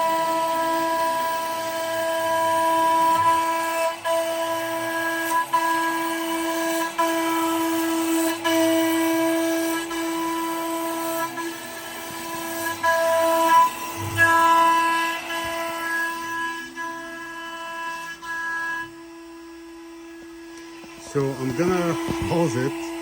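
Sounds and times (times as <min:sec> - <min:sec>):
cnc router spindle whining: 0:00.0 - 0:23.0.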